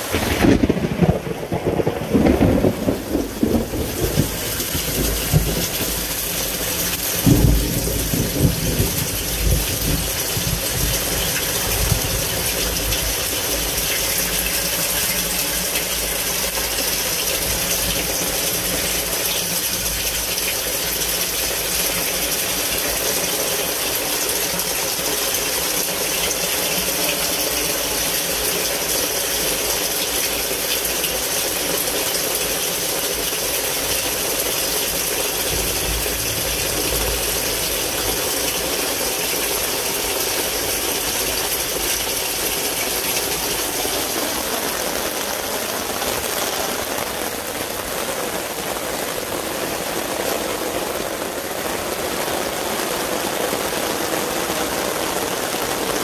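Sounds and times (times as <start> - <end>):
heavy rain: 0.0 - 56.0
rushing water: 0.0 - 56.0.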